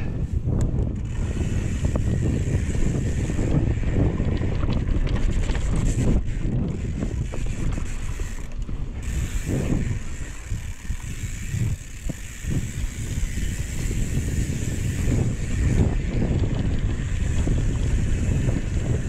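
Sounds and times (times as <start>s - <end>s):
bike drivetrain ticking and rattling: 0.0s - 19.0s
wind buffeting microphone: 0.0s - 19.0s.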